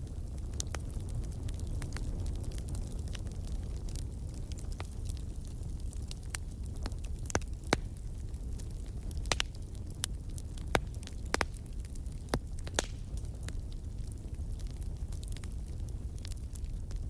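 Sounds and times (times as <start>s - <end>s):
fire crackling and popping: 0.0s - 17.0s
low fire rumble: 0.0s - 17.0s.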